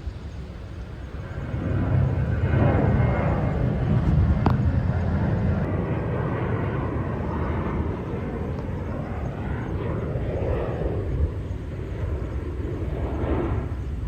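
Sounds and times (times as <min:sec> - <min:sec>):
jet airliner engines rumbling: 0:00.0 - 0:14.0.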